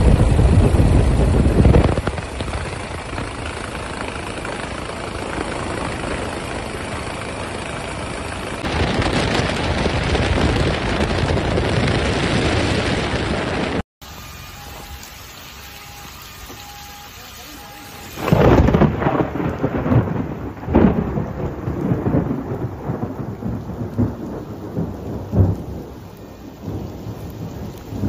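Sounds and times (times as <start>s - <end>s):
thunder rumbling: 0.0s - 13.8s, 17.8s - 28.0s
steady rain: 0.0s - 28.0s.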